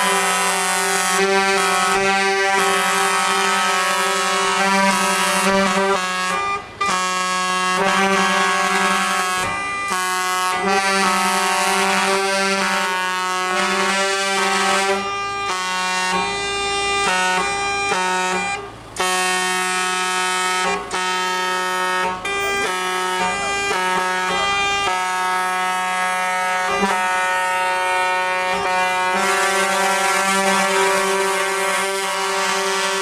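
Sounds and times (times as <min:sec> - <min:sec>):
truck air horns blaring: 0:00.0 - 0:33.0.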